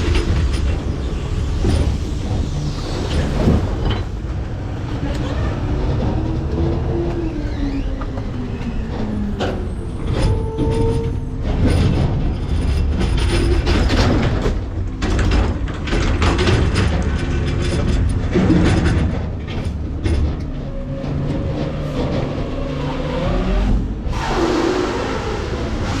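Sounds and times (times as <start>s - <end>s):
garbage truck engine and hydraulics: 0.0s - 26.0s.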